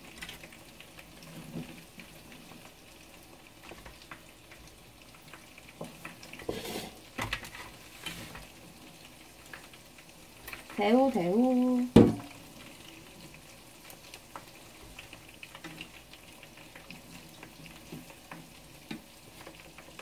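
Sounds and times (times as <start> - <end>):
oil sizzling in a frying pan: 0.0 - 20.0.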